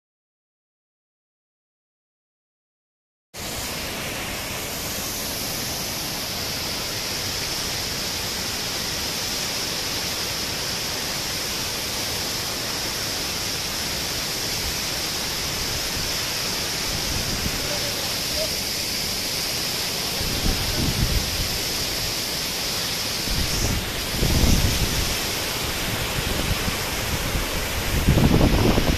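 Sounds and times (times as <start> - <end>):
waterfall rushing: 3.4 - 28.9.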